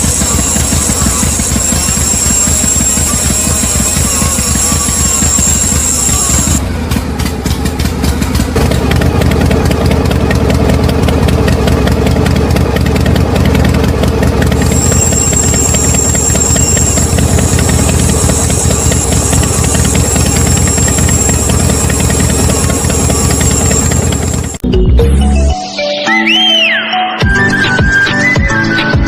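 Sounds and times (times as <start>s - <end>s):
fast even ticking: 0.0s - 6.6s, 7.2s - 24.6s
small engine running: 0.0s - 24.6s.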